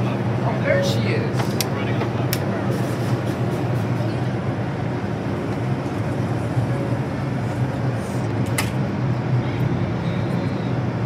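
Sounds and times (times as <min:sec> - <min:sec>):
subway train humming: 0:00.0 - 0:11.0.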